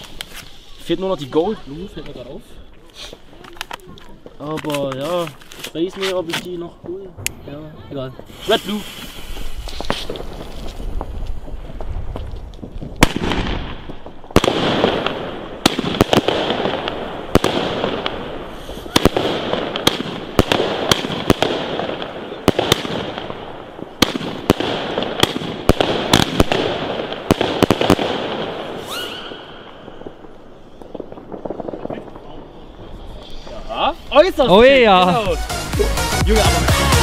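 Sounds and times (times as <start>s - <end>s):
firework bangs with crackling: 0.0s - 36.4s.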